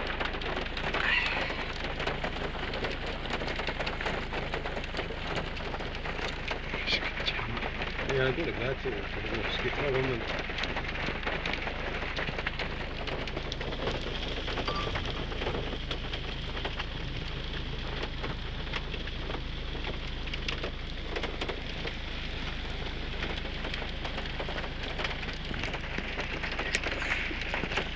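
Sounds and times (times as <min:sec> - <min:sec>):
rain falling: 0:00.0 - 0:27.9
raindrop taps: 0:00.0 - 0:27.9
runoff water rushing over rock: 0:00.0 - 0:27.9.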